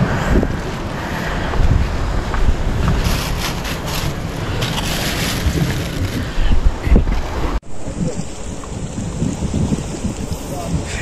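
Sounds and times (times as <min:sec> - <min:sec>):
sea washing: 0:00.0 - 0:11.0
wind buffeting microphone: 0:00.0 - 0:11.0.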